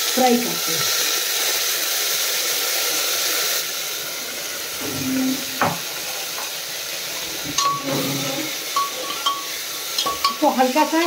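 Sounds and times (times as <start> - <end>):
grain sizzling in hot oil: 0.0 - 11.0.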